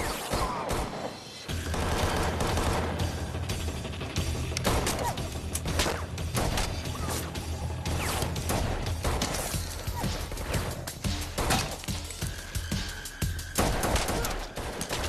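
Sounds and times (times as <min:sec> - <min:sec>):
gunshots and impacts: 0:00.0 - 0:07.3, 0:07.9 - 0:12.2, 0:13.5 - 0:15.0.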